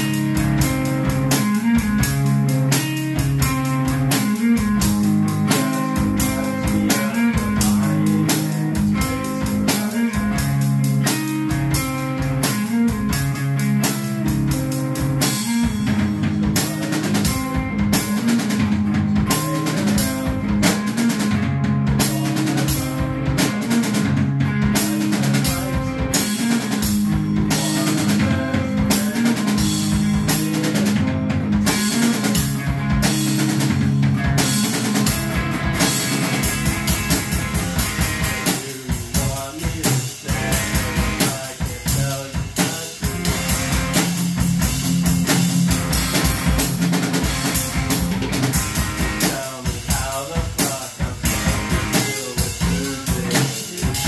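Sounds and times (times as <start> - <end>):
drum kit playing: 0.0 - 54.0
electric guitar rock riff: 0.0 - 54.0.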